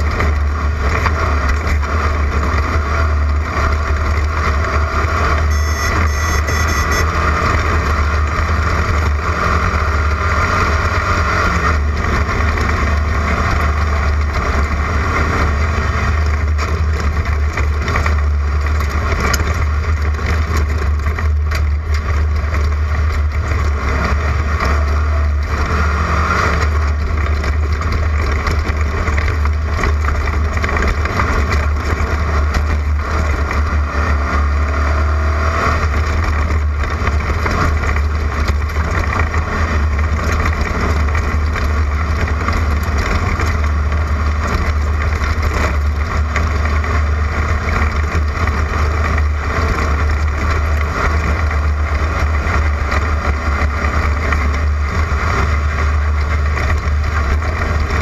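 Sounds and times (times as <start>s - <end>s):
race car engine roaring: 0.0s - 58.0s.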